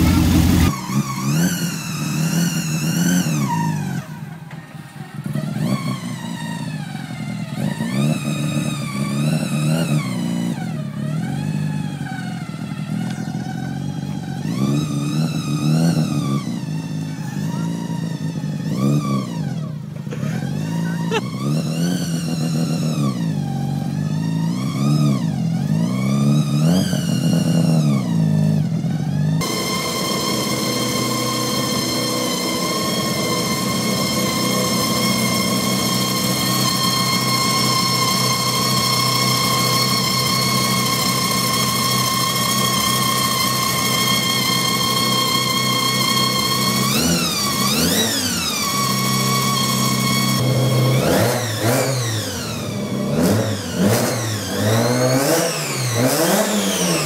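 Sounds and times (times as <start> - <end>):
car engines revving in short blips: 0.0 - 4.2, 12.8 - 57.0.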